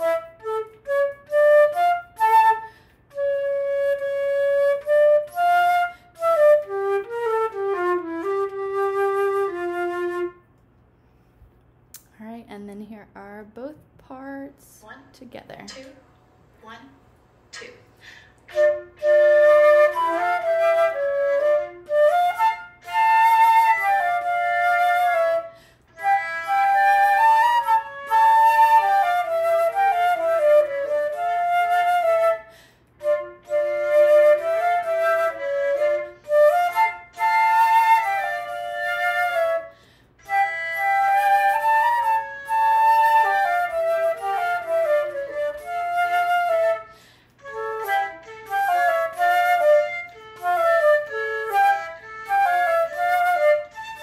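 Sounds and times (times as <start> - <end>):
solo flute playing: 0.0 - 10.6, 18.4 - 54.0.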